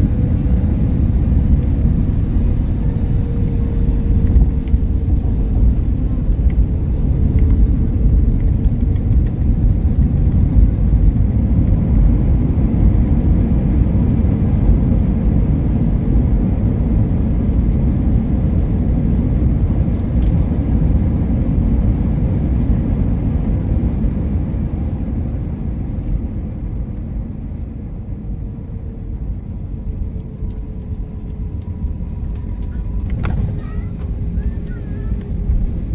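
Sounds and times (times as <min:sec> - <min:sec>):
airliner cabin rumble: 0:00.0 - 0:35.9.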